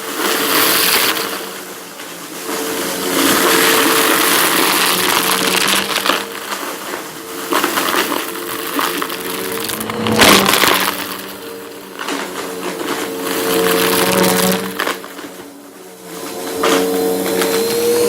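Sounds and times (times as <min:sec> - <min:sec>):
brushroll crunching debris: 0:00.0 - 0:18.0
vacuum cleaner motor hum: 0:00.0 - 0:18.0.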